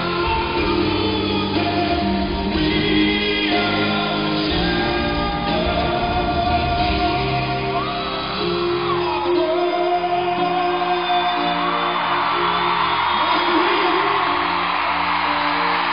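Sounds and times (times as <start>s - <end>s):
man singing long notes: 0.0s - 14.6s
crowd whooping and cheering: 0.0s - 15.9s
rock band playing: 0.0s - 15.9s.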